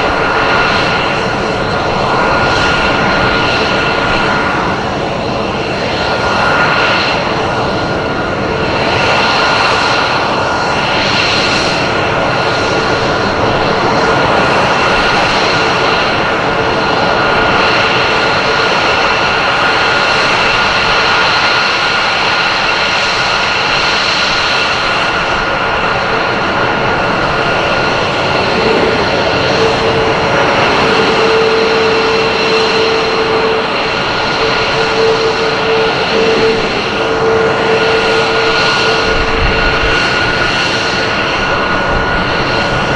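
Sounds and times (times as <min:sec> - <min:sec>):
high turbine whine: 0:00.0 - 0:42.9
jet engines roaring: 0:00.0 - 0:42.9.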